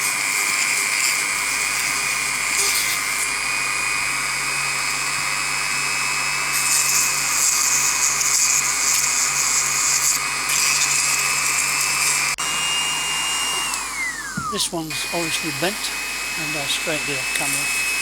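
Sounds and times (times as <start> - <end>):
rotary tool whining: 0.0 - 18.0.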